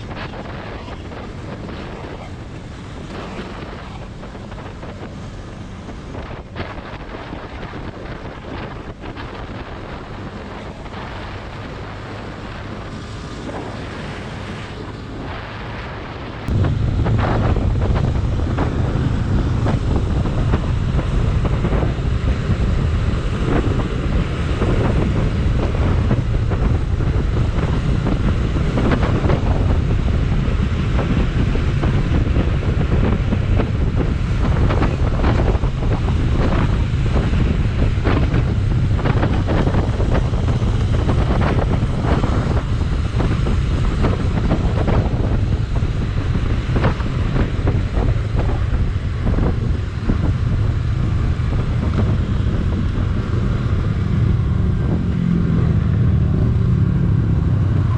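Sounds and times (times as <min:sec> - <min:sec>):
motorcycle low rumble: 0:00.0 - 0:57.9
wind rushing over microphone: 0:00.0 - 0:57.9.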